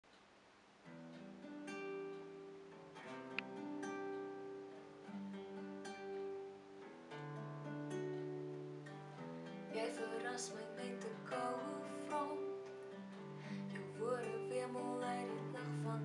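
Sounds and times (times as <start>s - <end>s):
acoustic guitars playing chords: 0.8s - 16.0s.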